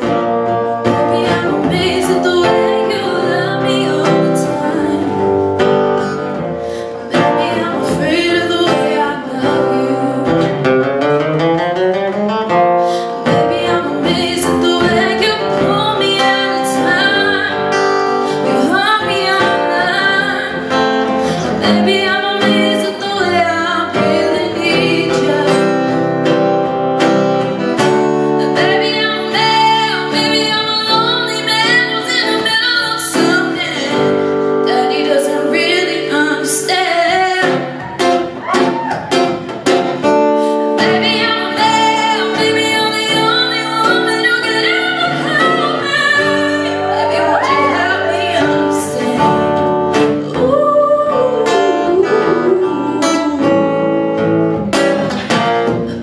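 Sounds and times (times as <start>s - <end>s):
woman singing: 0.0s - 26.4s, 27.7s - 38.8s, 40.3s - 55.4s
acoustic guitar: 0.0s - 56.0s.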